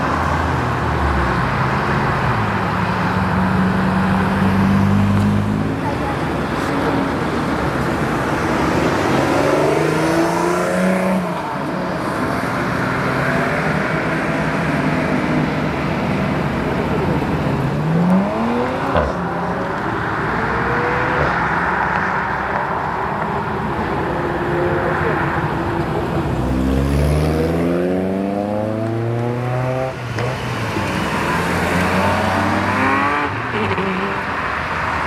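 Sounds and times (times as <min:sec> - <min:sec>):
car engine revving and accelerating: 0:00.1 - 0:22.7, 0:26.2 - 0:35.0.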